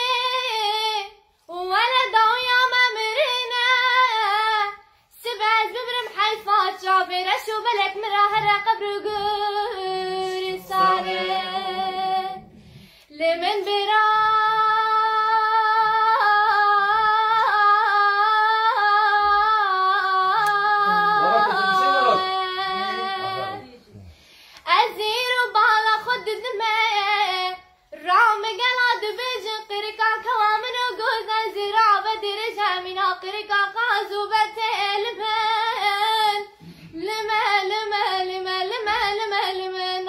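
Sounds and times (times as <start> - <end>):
girl singing unaccompanied: 0.0 - 23.9, 24.6 - 40.0.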